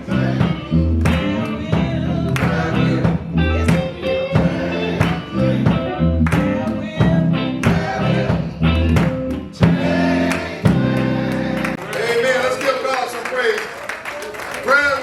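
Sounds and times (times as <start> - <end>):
gospel music with band: 0.0 - 13.3.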